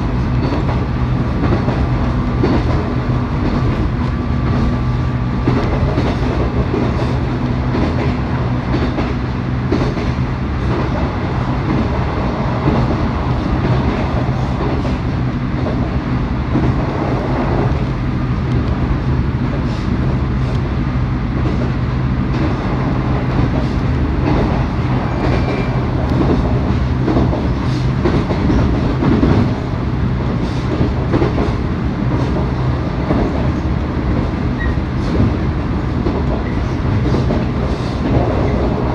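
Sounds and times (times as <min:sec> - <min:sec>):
clickety-clack of rail joints: 0:00.0 - 0:38.9
train motor hum: 0:00.0 - 0:38.9.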